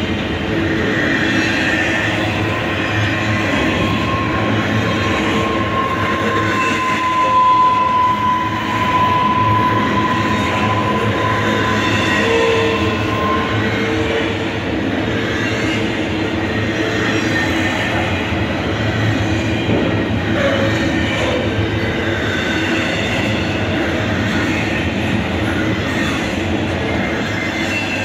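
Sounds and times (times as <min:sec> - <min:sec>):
freight train wheels rumbling: 0:00.0 - 0:28.0
high wheel squeals: 0:00.7 - 0:18.0, 0:18.8 - 0:28.0.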